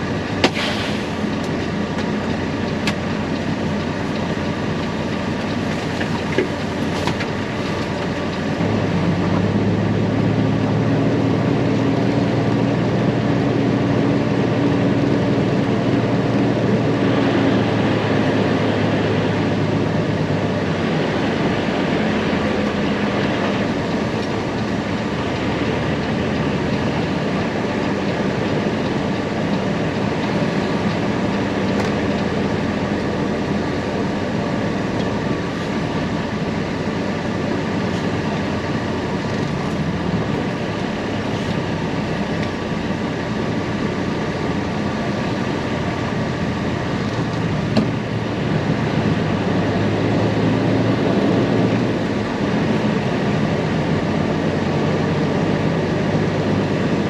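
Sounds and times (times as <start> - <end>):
heavy machinery humming: 0.0 - 57.0.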